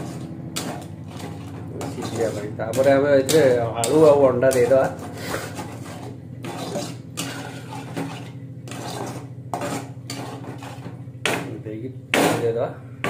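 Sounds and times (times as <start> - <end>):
metal spatula scraping a pan: 0.0 - 11.0.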